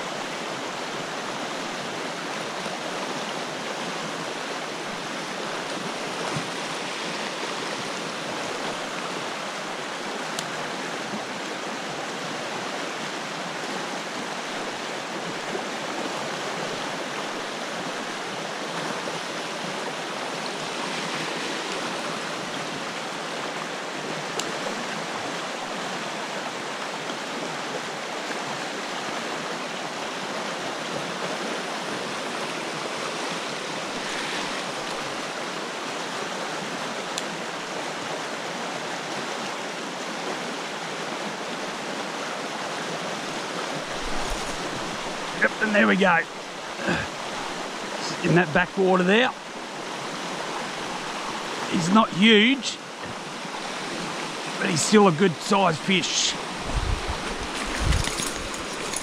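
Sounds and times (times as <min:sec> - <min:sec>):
creek water rushing over rapids: 0:00.0 - 0:59.0.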